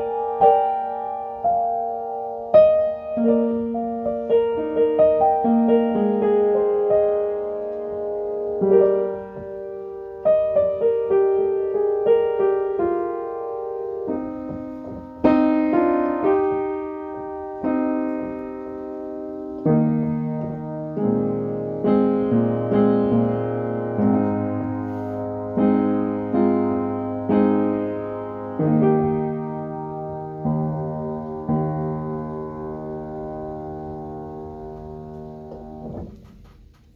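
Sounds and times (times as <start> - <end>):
slow gentle piano music: 0.0 - 36.9.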